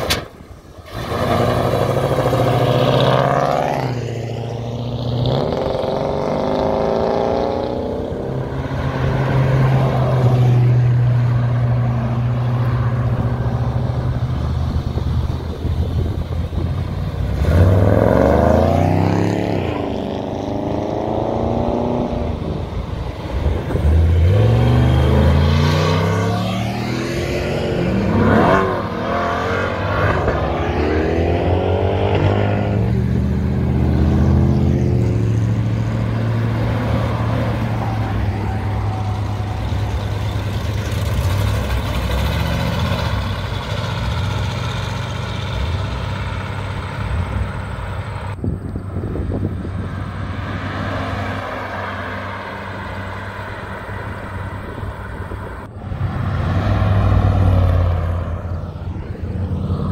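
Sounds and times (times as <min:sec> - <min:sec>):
cars driving past: 0:00.0 - 0:59.9.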